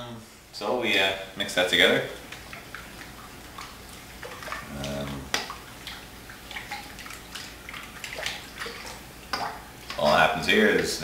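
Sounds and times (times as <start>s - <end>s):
water and oil sloshing in bowl: 1.7s - 11.0s.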